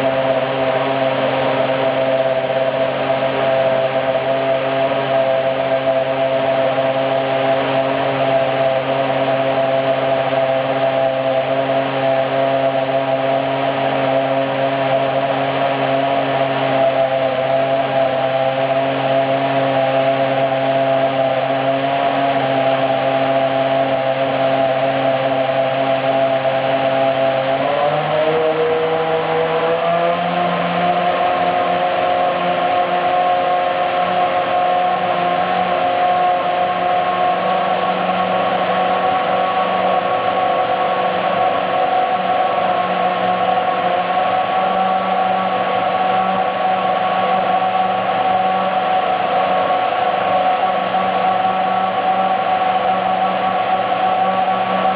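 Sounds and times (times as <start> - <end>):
high-pitched racing engine idling: 0.0 - 54.9.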